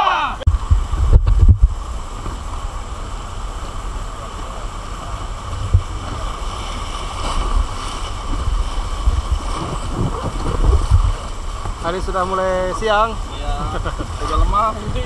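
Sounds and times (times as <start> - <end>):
wind buffeting microphone: 0.5 - 15.0
river rapids rushing: 1.8 - 15.0.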